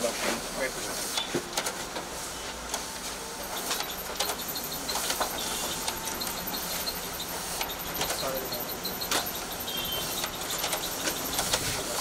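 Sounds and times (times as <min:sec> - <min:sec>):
copier mechanical whir: 0:00.0 - 0:12.0.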